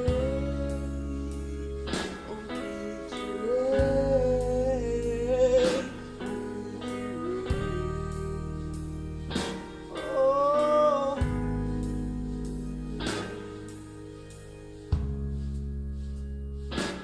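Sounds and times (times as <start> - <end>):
blues-rock ballad: 0.0 - 17.0.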